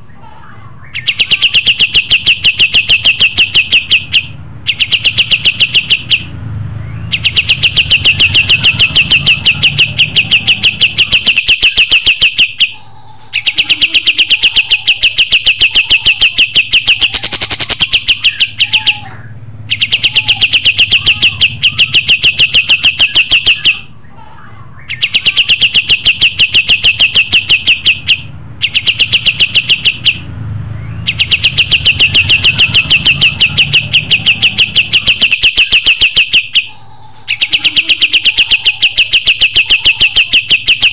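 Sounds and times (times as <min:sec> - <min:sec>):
songbird singing rapid notes: 0:00.9 - 0:23.9, 0:24.8 - 0:40.9.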